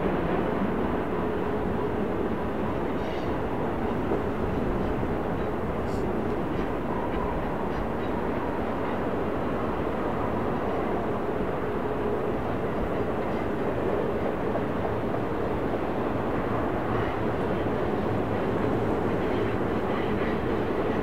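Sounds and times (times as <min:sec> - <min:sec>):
faint locomotive hum: 0:00.0 - 0:21.0
steel train wheels rumbling on rails: 0:00.0 - 0:21.0.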